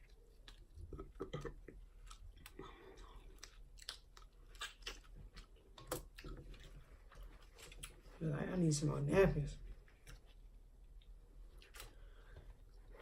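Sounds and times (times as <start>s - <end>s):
person chewing: 0.0s - 8.1s, 9.8s - 13.0s.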